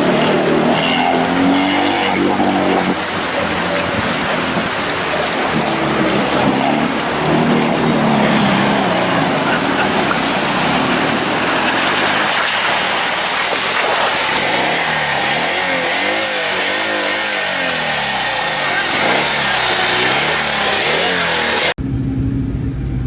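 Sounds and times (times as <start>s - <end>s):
road noise: 0.0s - 23.0s
vehicle engine revving: 0.0s - 23.0s.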